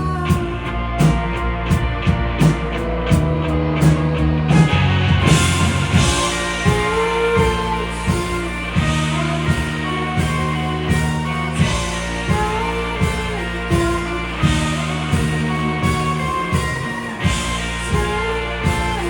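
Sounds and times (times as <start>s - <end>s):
bass guitar: 0.0s - 19.0s
electric guitar: 0.0s - 19.0s
steady drum beat: 0.0s - 19.0s.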